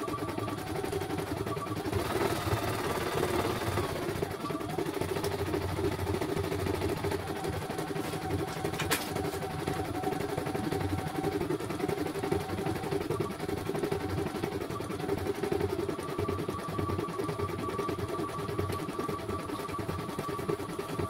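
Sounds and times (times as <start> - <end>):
embroidery machine stitching: 0.0 - 21.0.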